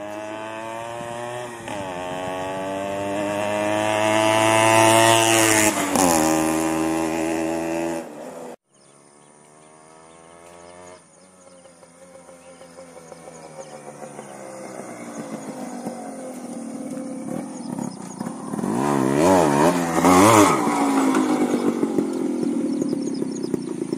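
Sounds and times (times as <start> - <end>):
motorbike engine accelerating: 0.0 - 23.9.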